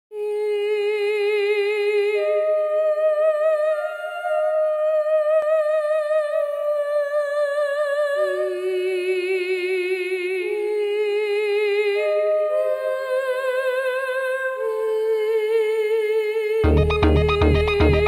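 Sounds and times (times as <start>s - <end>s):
hummed vocal notes with vibrato: 0.2s - 18.0s.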